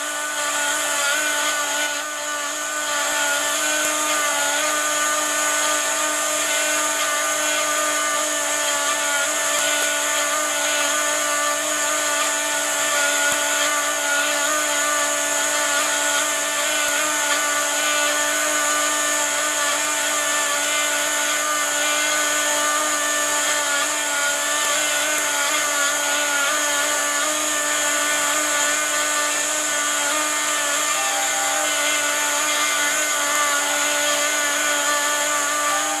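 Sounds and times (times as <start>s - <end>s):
router spindle high whine: 0.0s - 36.0s.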